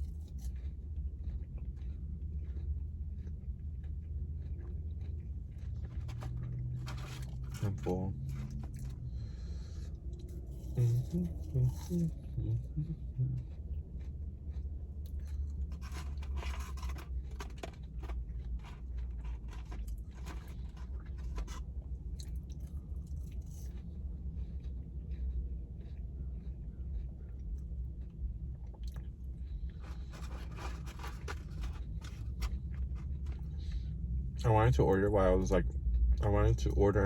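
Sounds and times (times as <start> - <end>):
person chewing and crunching food: 0.0 - 37.0
steady low hum: 0.0 - 37.0.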